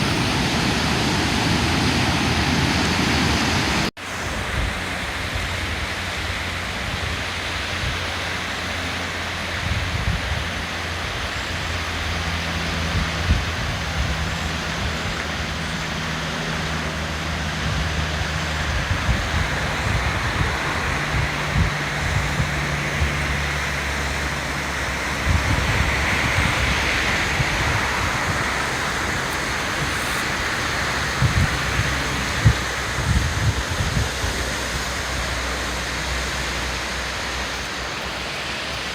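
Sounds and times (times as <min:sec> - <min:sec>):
river rushing in flood: 0:00.0 - 0:38.9.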